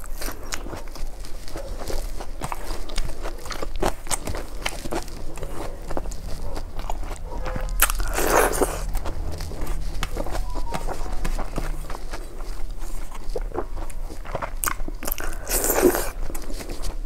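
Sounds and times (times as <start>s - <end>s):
chewing and crunching: 0.0s - 9.8s, 12.7s - 17.0s.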